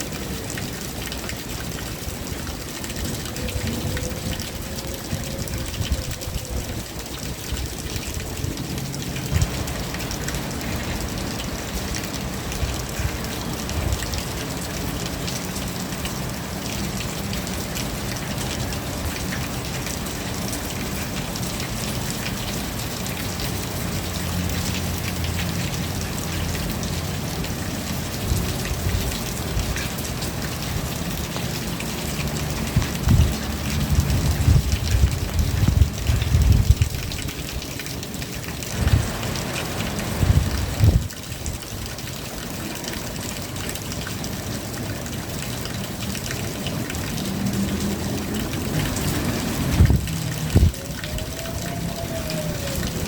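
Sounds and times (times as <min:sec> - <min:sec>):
rain pattering on surfaces: 0:00.0 - 0:53.0.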